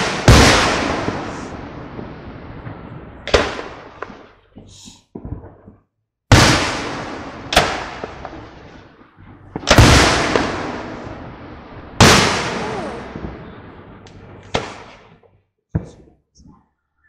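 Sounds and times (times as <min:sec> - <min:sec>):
fireworks bangs with rolling echo: 0:00.0 - 0:16.2.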